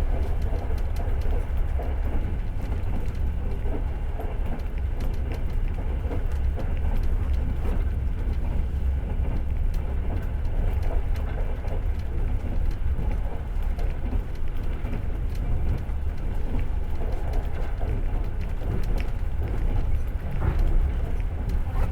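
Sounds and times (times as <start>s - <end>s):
train wheels rumbling on rails: 0.0s - 21.9s
light clicks and rattles: 0.1s - 21.9s.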